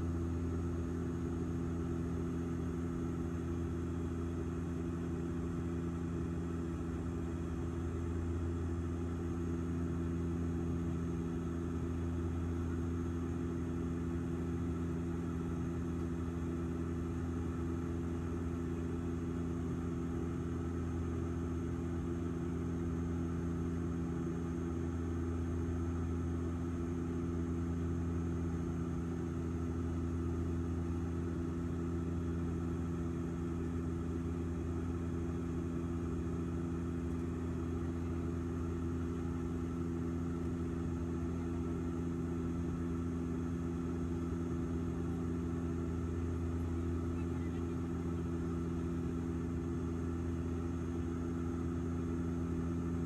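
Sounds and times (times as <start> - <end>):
airliner cabin engine drone: 0.0 - 53.0.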